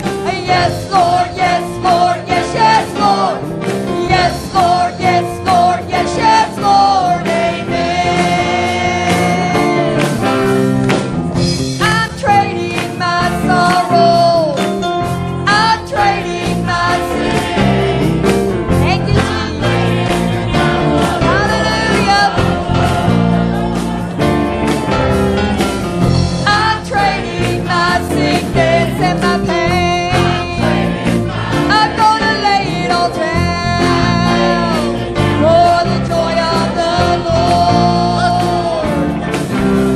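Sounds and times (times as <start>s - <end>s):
band playing: 0.0s - 39.9s
gospel worship singing: 0.0s - 39.9s.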